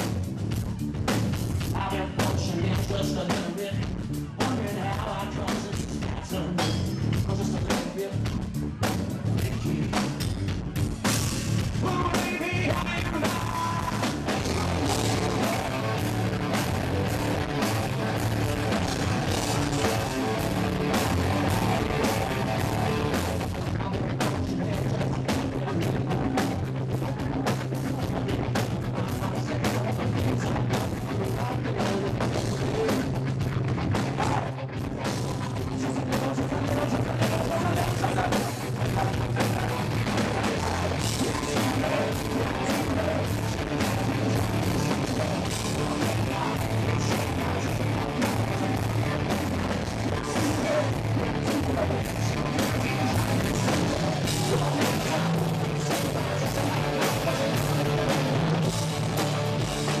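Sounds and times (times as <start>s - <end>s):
drum kit: 0.0s - 60.0s
electric guitar: 0.0s - 60.0s
person singing: 1.6s - 10.3s, 11.7s - 33.2s, 33.9s - 60.0s.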